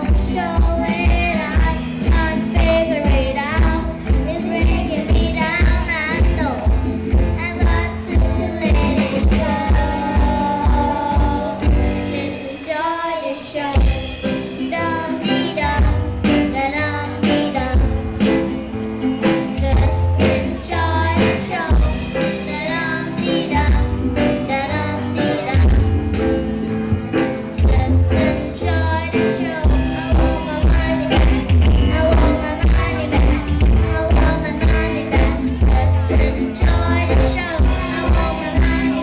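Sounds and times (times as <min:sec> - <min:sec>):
girls singing into microphones: 0:00.0 - 0:18.3, 0:19.4 - 0:25.9, 0:27.6 - 0:39.0
electric guitars: 0:00.0 - 0:39.0.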